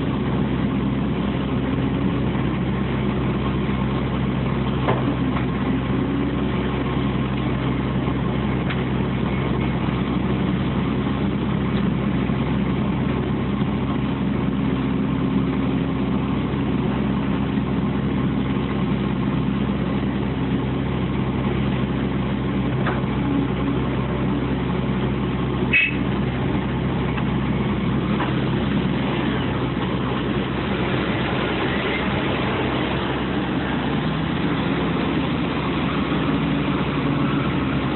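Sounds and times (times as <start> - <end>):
heavy diesel engines running: 0.0 - 37.9.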